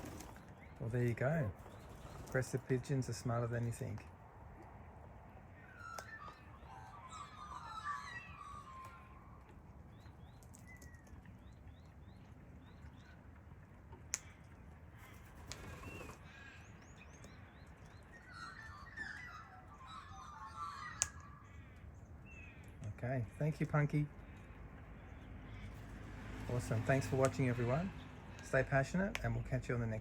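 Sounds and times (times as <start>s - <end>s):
birds warbling: 0.0s - 4.0s, 4.7s - 30.0s.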